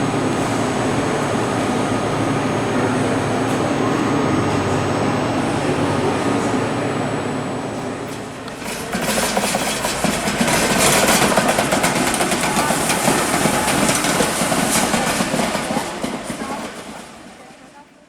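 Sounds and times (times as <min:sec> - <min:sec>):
train rumbling and rattling on rails: 0:00.0 - 0:18.0.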